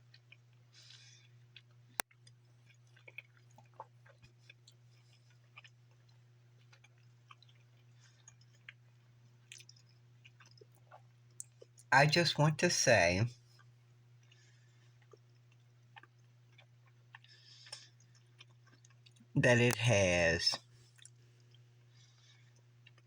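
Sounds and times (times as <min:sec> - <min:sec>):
chewing food: 0:00.0 - 0:11.9, 0:13.4 - 0:19.8, 0:20.8 - 0:23.0.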